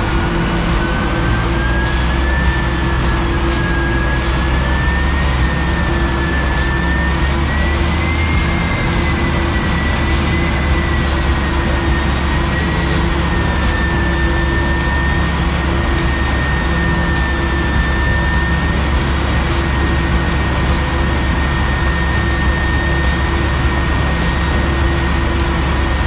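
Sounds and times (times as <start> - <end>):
dyno machinery whine: 0.0 - 26.0
van engine running on dyno: 0.0 - 26.0.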